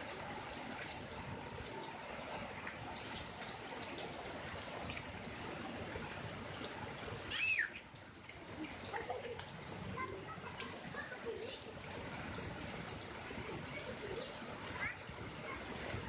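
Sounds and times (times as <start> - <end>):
steady rain: 0.0 - 16.0
water trickling: 0.0 - 16.0.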